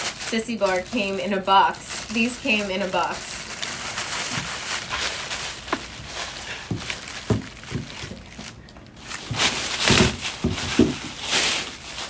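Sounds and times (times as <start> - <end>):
packaging knocks and rustles: 0.0 - 12.0.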